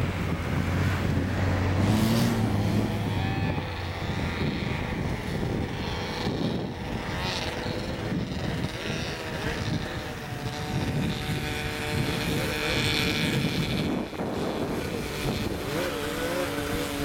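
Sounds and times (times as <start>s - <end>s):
snowmobile engines running: 0.0s - 17.0s
wind buffeting microphone: 0.0s - 17.0s.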